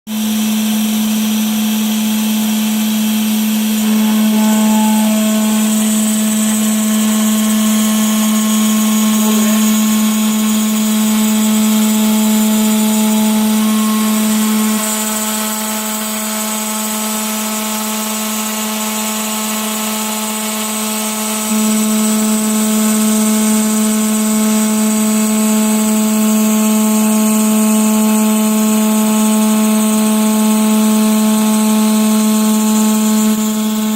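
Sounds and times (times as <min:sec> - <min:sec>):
cnc router milling whine: 0:00.1 - 0:33.9.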